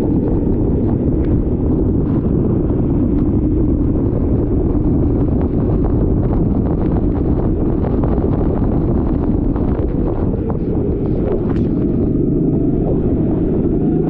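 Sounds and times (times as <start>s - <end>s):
kart engine drone: 0.0s - 14.0s
wind buffeting on microphone: 0.0s - 14.0s.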